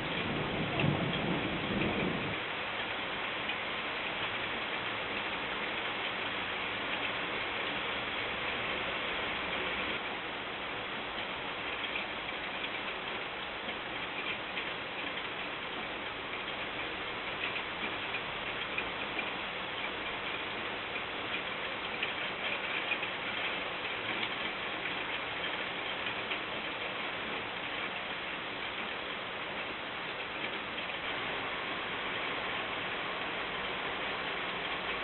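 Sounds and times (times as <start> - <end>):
raindrop ticks: 0.0 - 35.0
steady rain hiss: 0.0 - 35.0.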